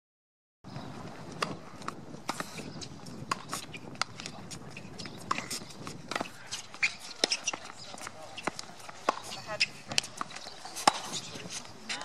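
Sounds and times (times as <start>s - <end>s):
shoes on hard court: 0.7s - 12.0s
rackets striking tennis ball: 1.3s - 12.0s
ball bouncing: 1.4s - 11.3s.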